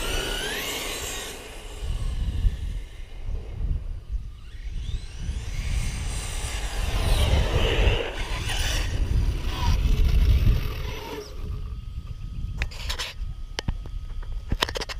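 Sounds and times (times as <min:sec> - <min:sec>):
electric motor whine: 0:00.0 - 0:14.9
wind rumbling on microphone: 0:00.0 - 0:14.9.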